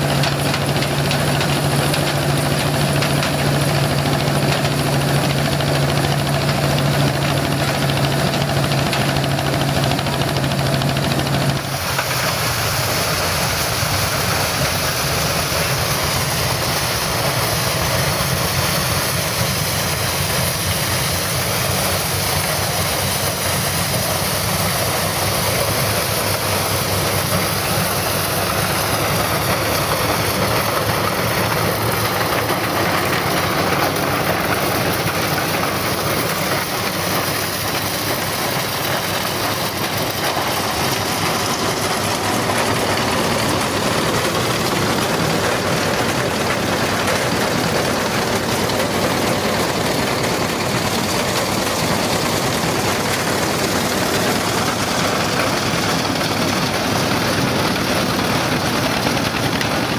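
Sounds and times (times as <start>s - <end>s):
tractor engine driving corn sheller: 0.0s - 59.9s.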